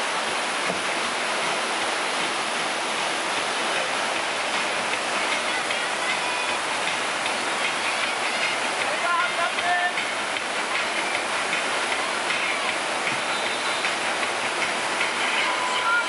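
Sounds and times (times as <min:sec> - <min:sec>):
river rapids rushing over boulders: 0:00.0 - 0:16.0.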